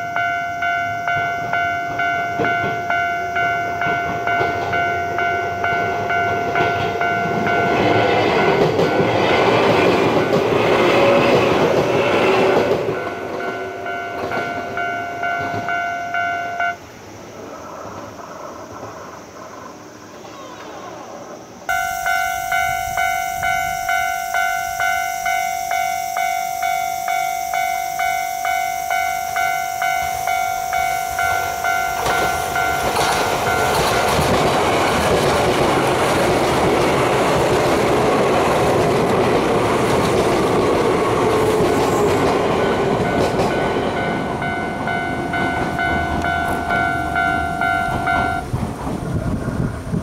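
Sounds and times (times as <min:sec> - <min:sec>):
level crossing alarm ringing: 0:00.0 - 0:16.8, 0:21.7 - 0:48.5
train wheels clacking on rail joints: 0:00.0 - 0:16.8, 0:21.7 - 0:50.0
electric train rumbling past: 0:00.0 - 0:50.0.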